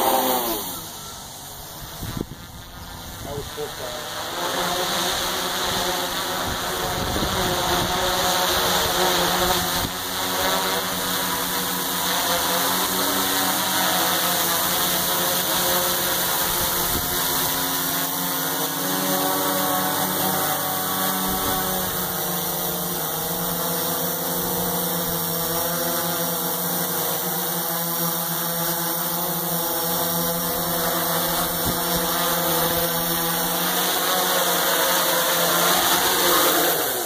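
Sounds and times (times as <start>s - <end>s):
drone propellers buzzing: 0.0s - 37.0s.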